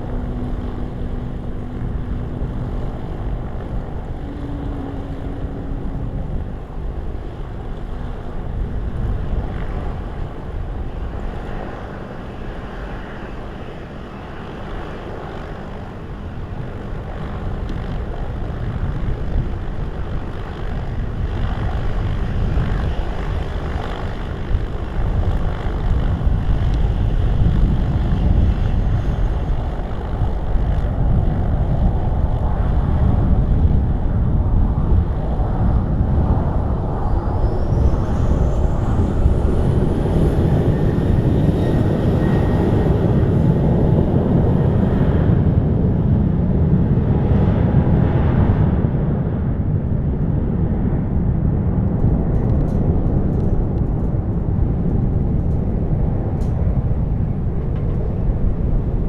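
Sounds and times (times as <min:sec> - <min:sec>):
jet engines rumbling: 0:00.0 - 0:59.0
wind buffeting microphone: 0:00.0 - 0:59.0.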